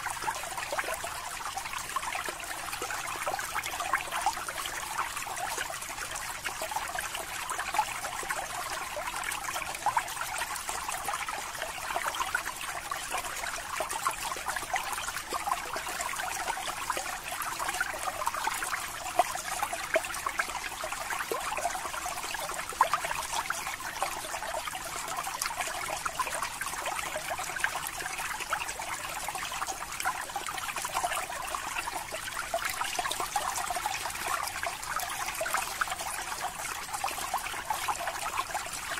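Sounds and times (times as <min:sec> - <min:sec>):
aquarium water trickling and bubbling: 0:00.0 - 0:38.9.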